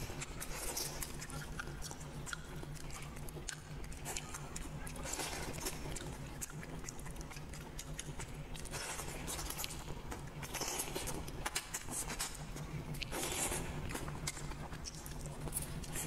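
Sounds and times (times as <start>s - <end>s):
person chewing meat: 0.0s - 16.0s
wet lip smacks and sucking: 0.2s - 16.0s.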